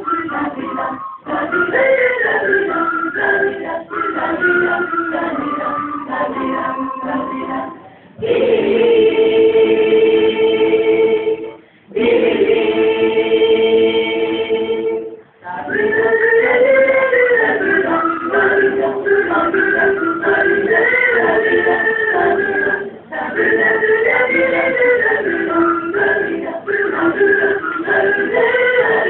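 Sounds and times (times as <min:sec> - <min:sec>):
women's choir singing: 0:00.0 - 0:29.0.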